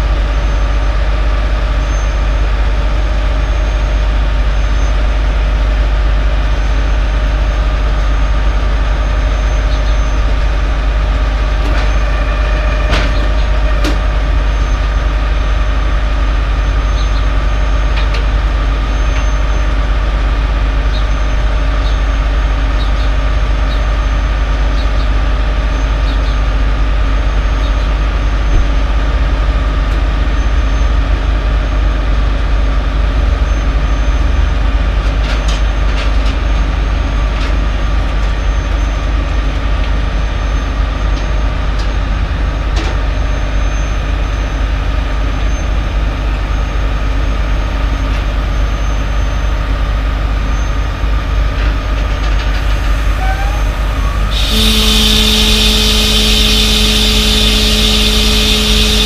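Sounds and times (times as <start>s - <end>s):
diesel engine rumbling with whine: 0.0s - 59.0s.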